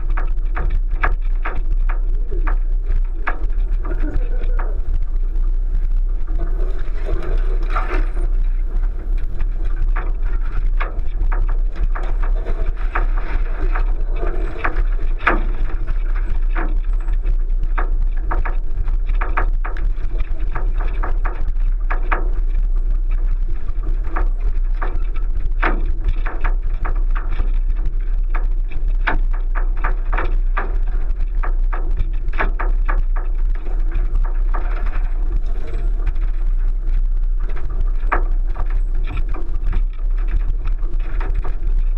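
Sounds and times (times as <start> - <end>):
car engine rumbling: 0.0 - 41.9.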